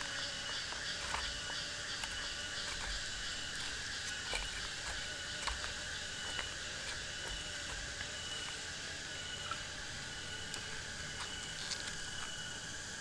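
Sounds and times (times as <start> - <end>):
frogs croaking: 0.0 - 13.0
insects chirring: 0.0 - 13.0.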